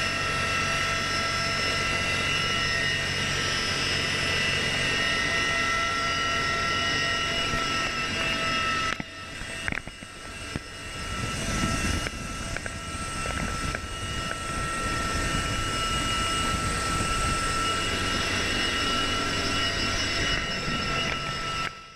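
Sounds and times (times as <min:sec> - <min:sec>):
helicopter cabin drone with whine: 0:00.0 - 0:21.9.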